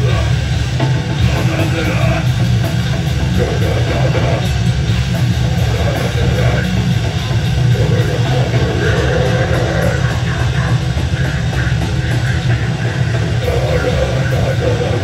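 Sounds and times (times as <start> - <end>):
drum kit: 0.0 - 15.0
electric bass: 0.0 - 15.0
electric guitar: 0.0 - 15.0.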